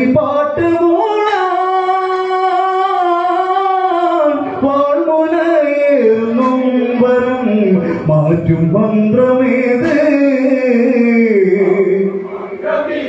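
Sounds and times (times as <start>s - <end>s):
man singing folk song: 0.0s - 12.1s.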